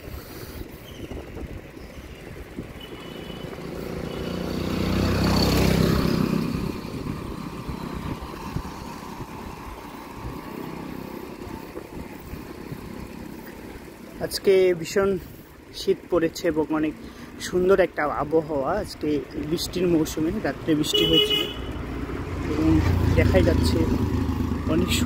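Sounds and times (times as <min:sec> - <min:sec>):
motorcycle passing: 0:00.3 - 0:17.8, 0:19.0 - 0:25.0.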